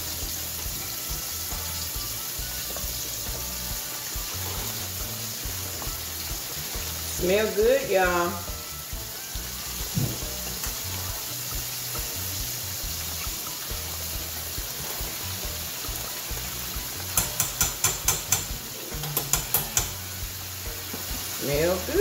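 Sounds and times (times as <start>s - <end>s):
chicken deep-frying sizzle: 0.0s - 22.0s
sharp crackles of frying oil: 0.0s - 22.0s.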